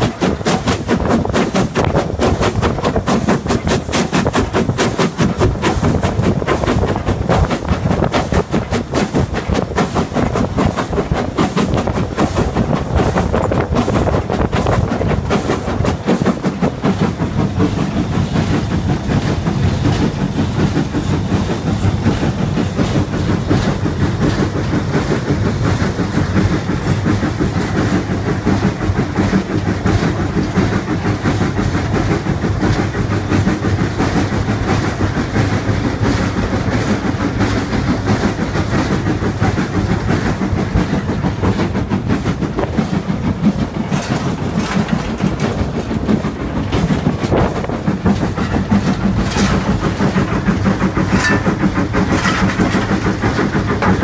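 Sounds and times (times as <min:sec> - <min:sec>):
steam locomotive rhythmic beat: 0:00.0 - 0:54.0.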